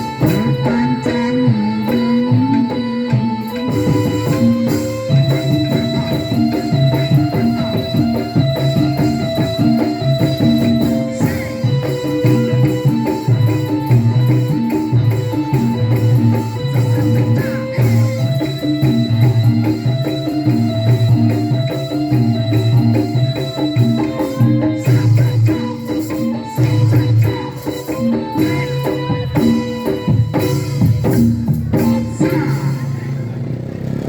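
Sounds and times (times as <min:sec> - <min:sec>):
drum and tambourine beat: 0:00.0 - 0:33.2
keyboard melody: 0:00.0 - 0:33.4.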